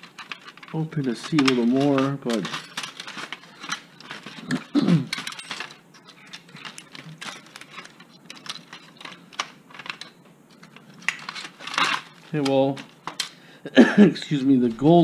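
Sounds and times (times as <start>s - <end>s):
clicks and rattles of plastic parts: 0.0s - 13.4s.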